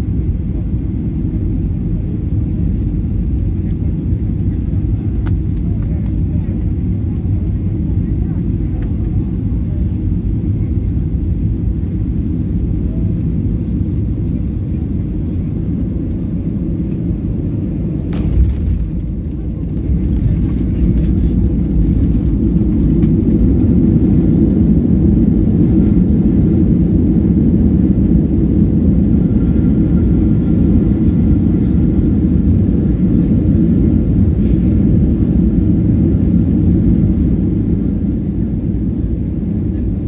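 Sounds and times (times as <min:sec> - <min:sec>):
jet engines roaring: 0:00.0 - 0:40.0
wheels rumbling on runway: 0:00.5 - 0:40.0.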